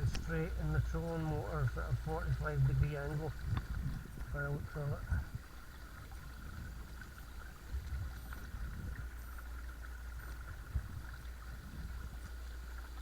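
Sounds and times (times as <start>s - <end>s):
water rumbling along hull: 0.0s - 13.0s.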